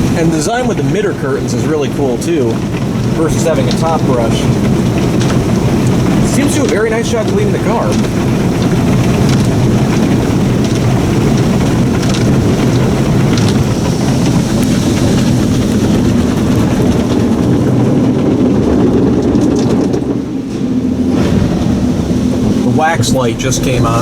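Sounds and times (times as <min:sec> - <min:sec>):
car wash cloths rubbing: 0:00.0 - 0:24.0
spraying water: 0:00.0 - 0:24.0.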